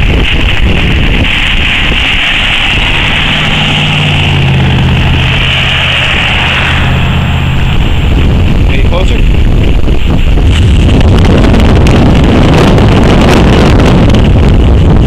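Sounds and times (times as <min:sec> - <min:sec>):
low vehicle engine hum: 0:00.0 - 0:15.0
wind buffeting microphone: 0:00.0 - 0:15.0.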